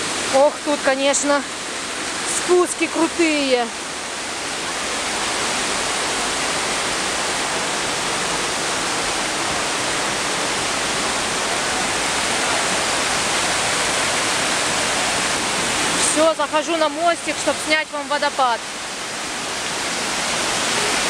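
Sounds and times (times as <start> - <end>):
rushing whitewater: 0.0 - 21.0.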